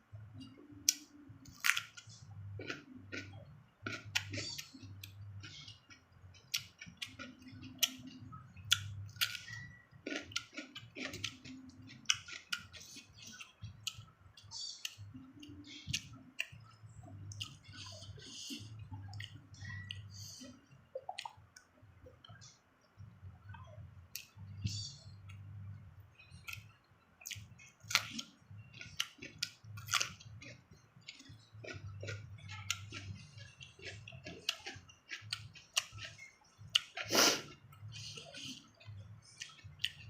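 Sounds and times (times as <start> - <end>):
muffled chewing: 0.4 - 40.0.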